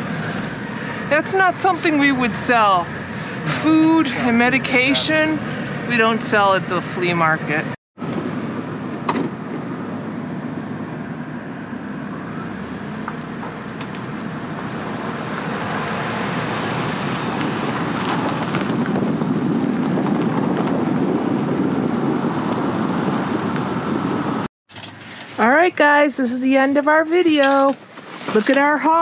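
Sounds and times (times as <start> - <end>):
vehicle road and engine noise: 0.0 - 29.0.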